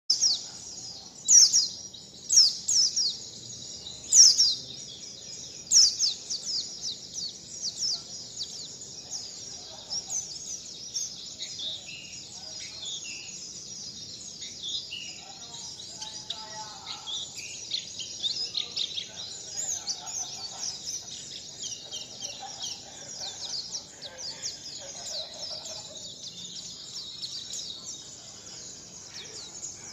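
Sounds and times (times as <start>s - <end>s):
songbird chirping: 0.1s - 29.9s.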